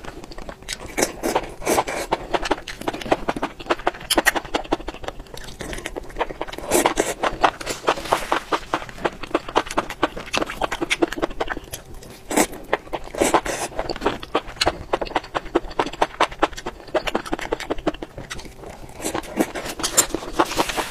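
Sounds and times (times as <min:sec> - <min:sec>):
wet chewing: 0:00.0 - 0:20.9.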